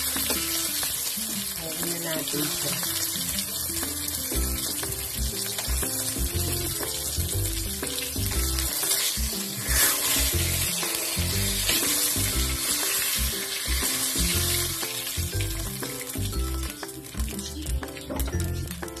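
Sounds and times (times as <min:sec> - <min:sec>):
background music with beat: 0:00.0 - 0:01.4, 0:03.2 - 0:19.0
food sizzling in hot oil: 0:00.0 - 0:19.0.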